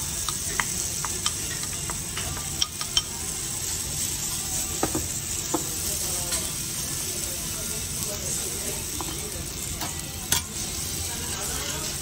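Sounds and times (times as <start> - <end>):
batter sizzling on a griddle: 0.0 - 12.0.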